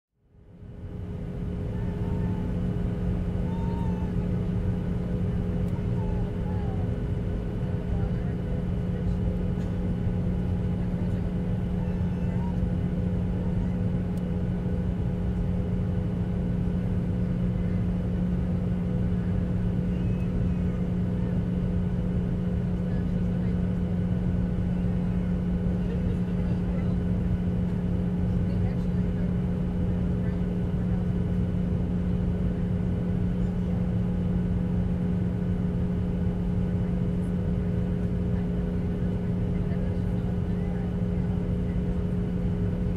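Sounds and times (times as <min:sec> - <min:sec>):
jet engines idling in cabin: 0:00.2 - 0:42.9.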